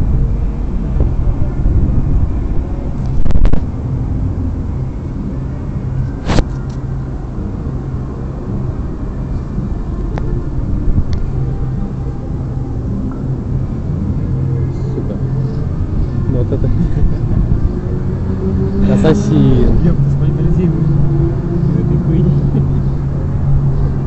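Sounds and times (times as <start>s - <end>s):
city street rumble: 0.0s - 24.0s.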